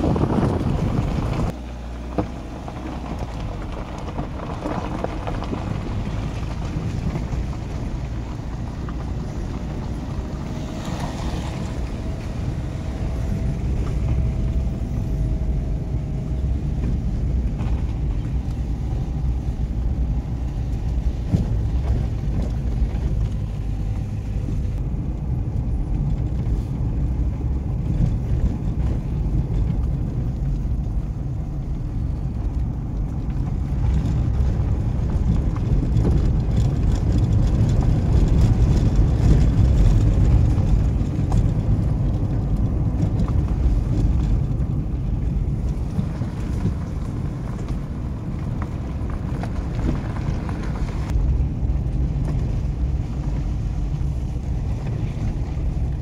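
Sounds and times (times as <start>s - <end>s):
car tyres and engine rumbling: 0.0s - 56.0s.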